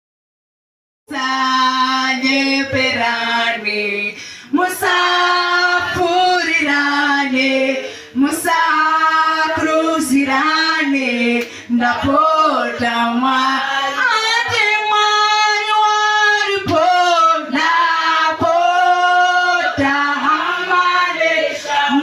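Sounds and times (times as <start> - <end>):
woman singing into a microphone: 1.1 - 22.0
women singing a worship song: 1.1 - 22.0.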